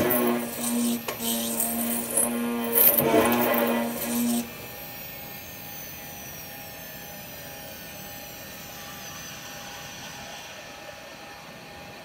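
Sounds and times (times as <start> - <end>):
machine spindle whine: 0.0 - 12.0.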